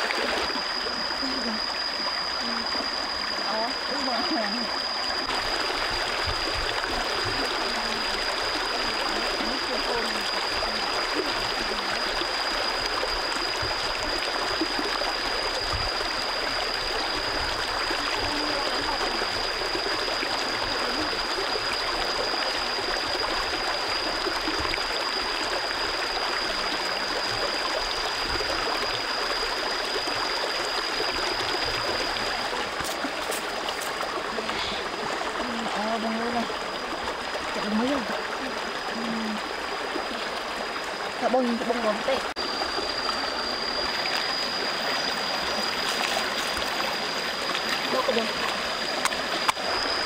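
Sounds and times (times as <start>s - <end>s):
rocky stream running: 0.0s - 50.0s
thin high-pitched whine: 0.0s - 50.0s.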